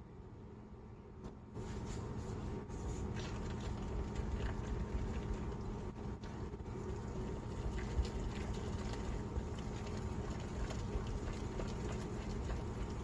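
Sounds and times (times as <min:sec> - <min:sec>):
whisk beating batter in glass bowl: 0:01.6 - 0:13.0.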